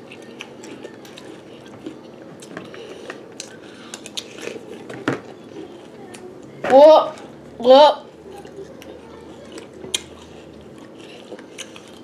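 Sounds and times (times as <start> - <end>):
cereal being chewed: 0.0 - 6.2, 8.1 - 12.0.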